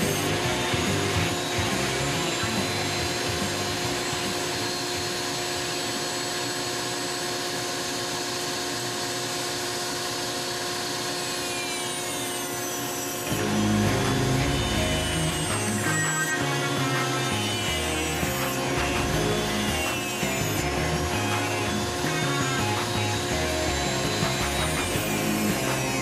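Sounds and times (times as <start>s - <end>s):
rotary tool grinding wood: 0.0s - 7.2s, 8.7s - 26.0s
dust collector hum: 0.0s - 26.0s.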